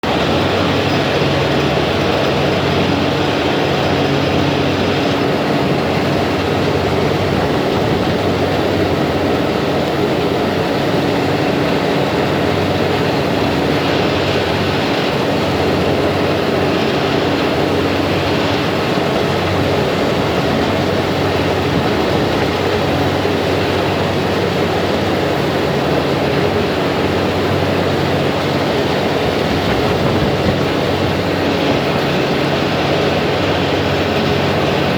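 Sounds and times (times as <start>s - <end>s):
boat engines droning: 0.0s - 34.9s
rush of water noise: 0.0s - 34.9s.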